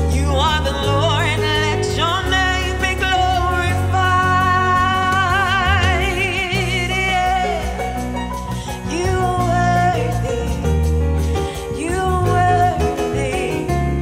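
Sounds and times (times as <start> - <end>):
woman singing with vibrato: 0.0 - 10.7, 11.5 - 14.0
instrumental accompaniment with bass: 0.0 - 14.0.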